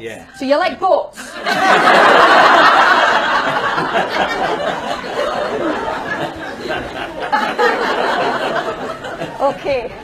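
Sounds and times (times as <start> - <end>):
audience laughing: 1.2 - 10.0.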